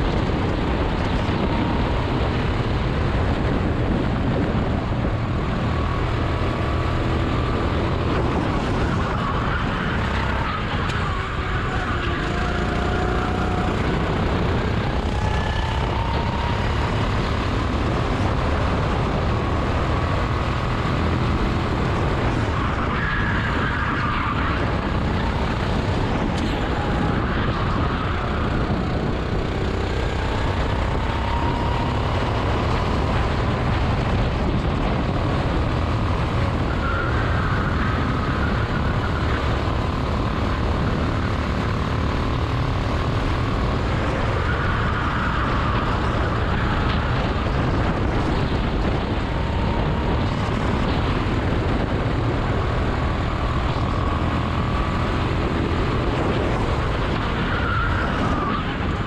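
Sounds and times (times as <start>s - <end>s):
go-kart engine running hard: 0.0s - 59.0s
wind noise: 0.0s - 59.0s.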